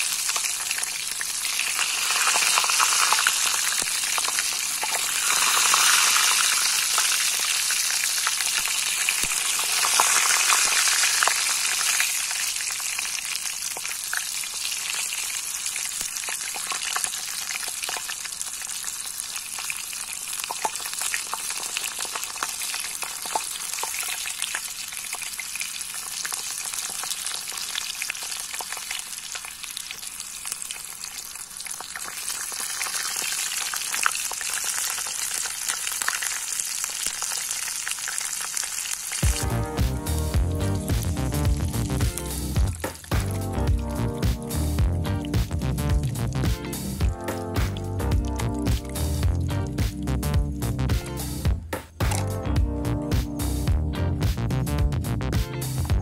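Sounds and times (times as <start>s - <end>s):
food sizzling in hot oil: 0.0s - 52.5s.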